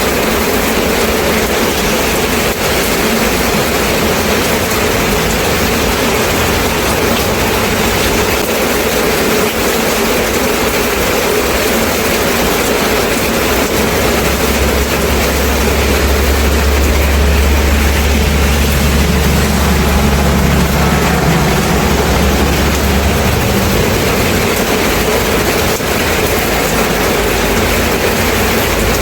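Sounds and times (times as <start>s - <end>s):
steady rain: 0.0s - 29.0s
low rumble: 1.8s - 8.8s, 12.7s - 29.0s.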